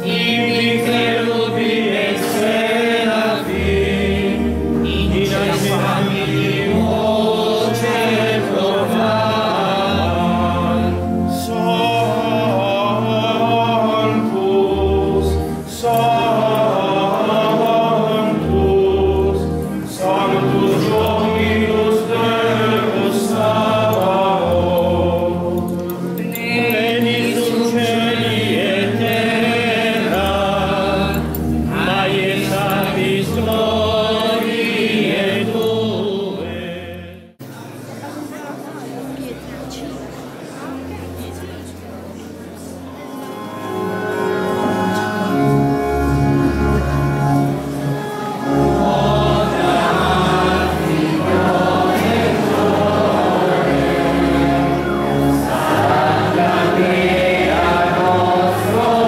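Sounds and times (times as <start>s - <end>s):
congregation singing a hymn: 0.0s - 37.7s, 42.4s - 59.0s.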